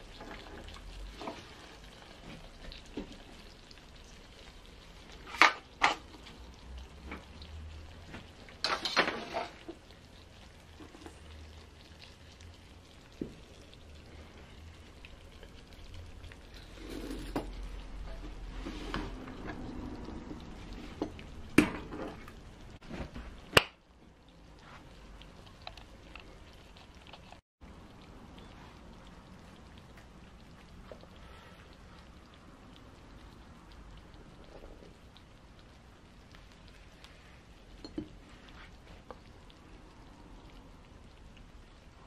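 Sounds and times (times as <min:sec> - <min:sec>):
faint sizzling hiss: 0:00.0 - 0:42.0.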